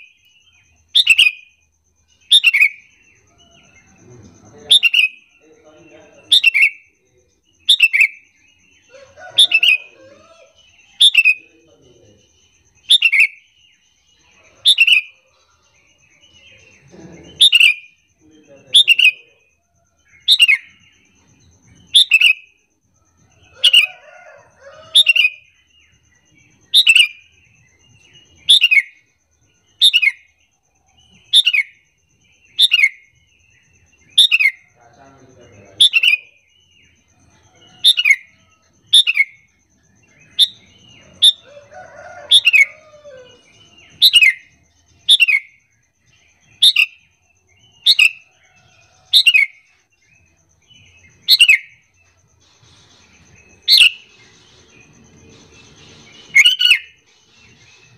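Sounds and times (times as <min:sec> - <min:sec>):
soft bird chatter: 0:00.0 - 0:57.9.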